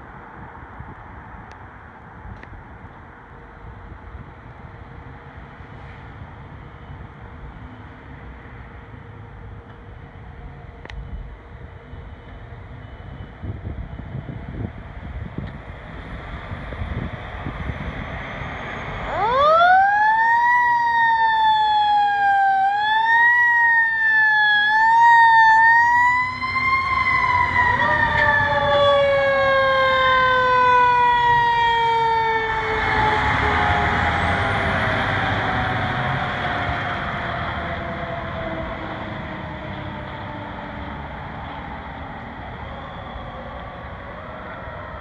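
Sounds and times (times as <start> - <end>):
trucks passing: 0.0 - 45.0
fire truck siren wailing: 6.4 - 45.0
lower siren tone: 6.4 - 45.0.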